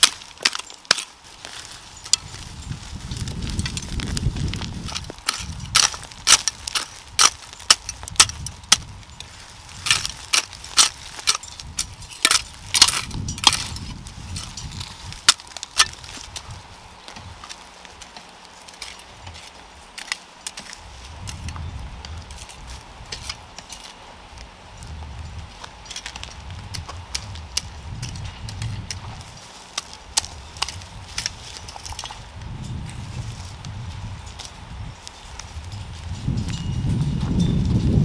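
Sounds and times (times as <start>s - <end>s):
roots snapping as weeds pulled: 0.0s - 38.0s.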